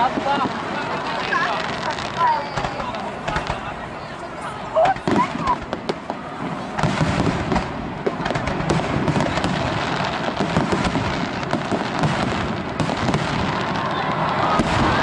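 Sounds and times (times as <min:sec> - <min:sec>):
fireworks crackling: 0:00.0 - 0:15.0
fireworks rumble: 0:00.0 - 0:15.0.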